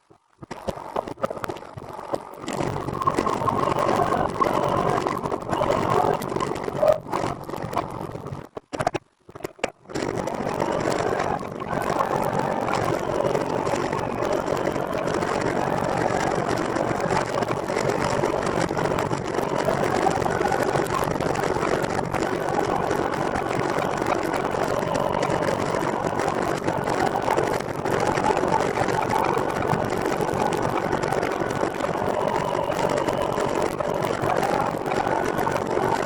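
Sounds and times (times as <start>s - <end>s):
wind on microphone: 2.4s - 8.4s, 9.9s - 36.0s.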